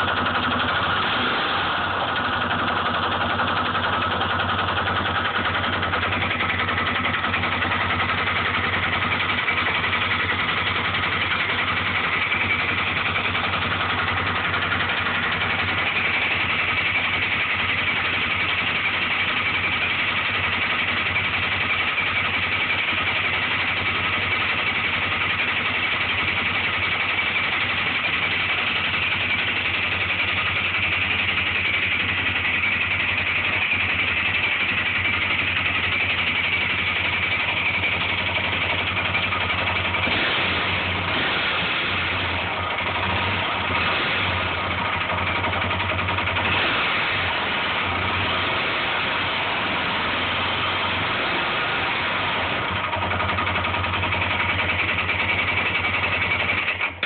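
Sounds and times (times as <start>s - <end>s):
atv engine idling with loud knock: 0.0s - 57.0s.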